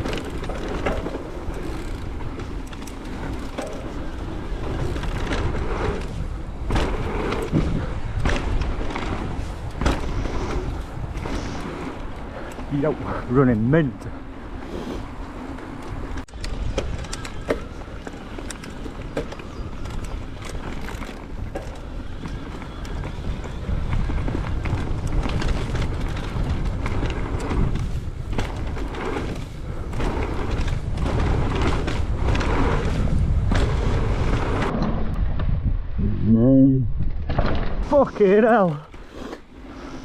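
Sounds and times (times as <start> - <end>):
bike rattling over rough ground: 0.0 - 35.8, 37.0 - 40.0
bike tyres on dirt: 0.0 - 36.0, 37.0 - 40.0
wind rushing over microphone: 0.0 - 40.0.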